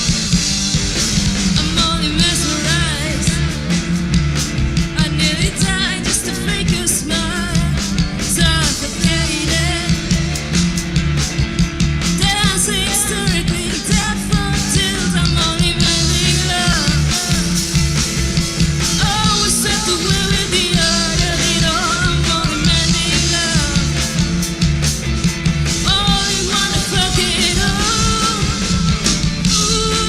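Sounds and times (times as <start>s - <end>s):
rock band playing: 0.0s - 30.0s.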